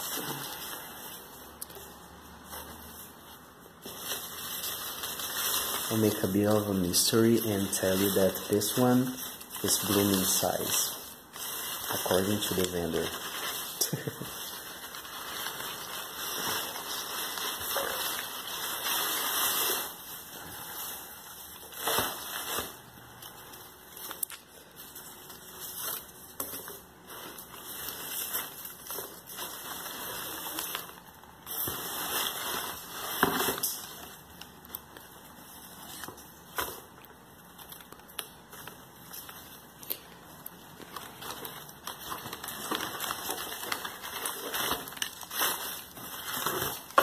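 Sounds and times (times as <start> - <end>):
paper packing rustling: 0.0 - 47.0.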